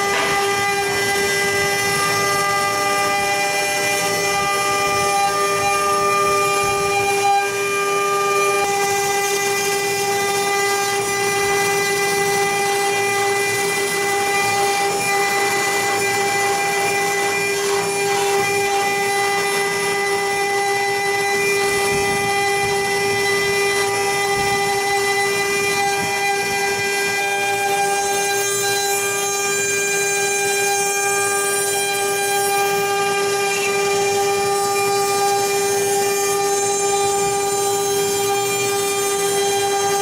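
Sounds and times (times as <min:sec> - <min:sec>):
router spindles whining: 0:00.0 - 0:40.0.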